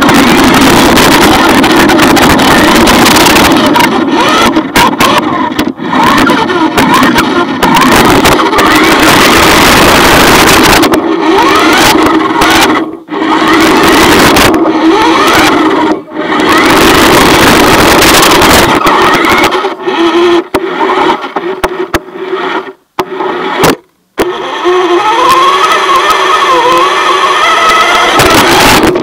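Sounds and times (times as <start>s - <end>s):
electric motor whining: 0.0s - 29.0s
noisy rattle: 0.0s - 29.0s.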